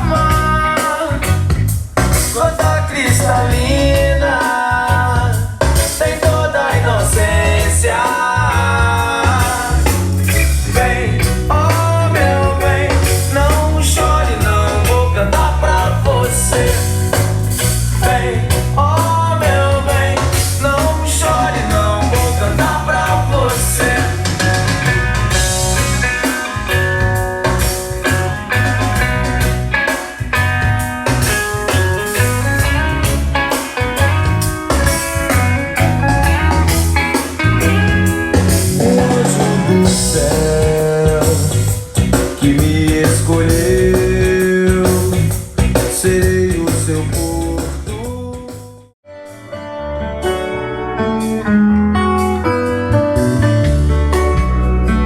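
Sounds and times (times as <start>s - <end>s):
melodic vocal-like lines: 0.0s - 1.5s, 2.2s - 29.9s, 31.0s - 48.6s
pop-rock music: 0.0s - 55.0s.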